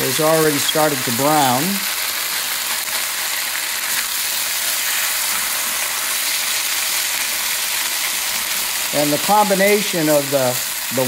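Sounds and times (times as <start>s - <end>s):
meat and vegetables sizzling in wok: 0.0s - 11.0s.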